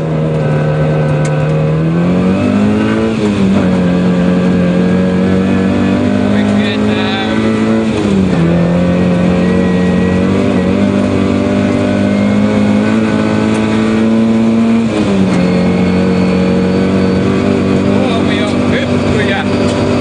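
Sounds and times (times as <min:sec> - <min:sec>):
rally car engine from inside cabin: 0:00.0 - 0:20.0.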